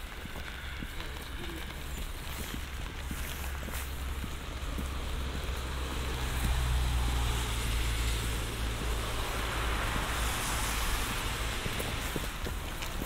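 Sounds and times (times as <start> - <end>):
light rain: 0.0 - 13.0
traffic rumble: 0.0 - 13.0
tyres hissing on wet road: 0.0 - 13.0.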